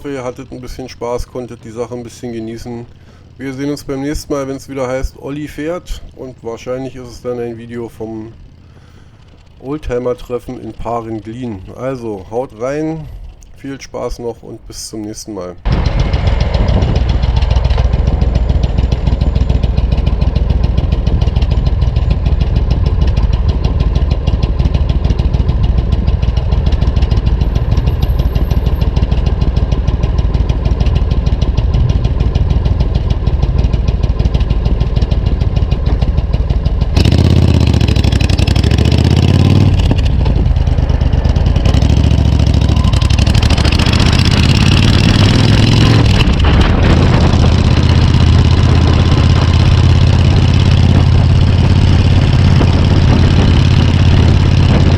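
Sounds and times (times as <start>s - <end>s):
motorcycle engine revving: 0.0s - 14.2s, 15.6s - 54.9s
motorcycle engine idling: 0.0s - 54.9s.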